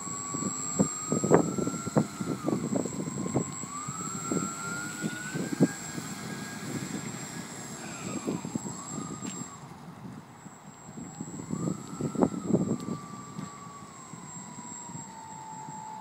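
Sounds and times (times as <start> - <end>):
model airplane motor whining: 0.0 - 16.0.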